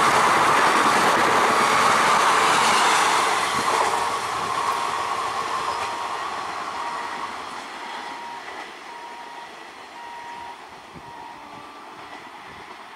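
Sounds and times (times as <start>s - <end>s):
electric train rumbling: 0.0s - 12.9s.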